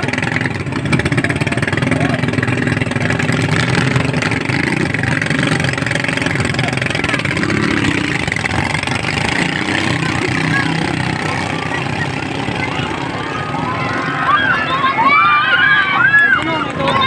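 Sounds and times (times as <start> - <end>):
boat engine running: 0.0 - 17.0
faint voices: 0.0 - 17.0.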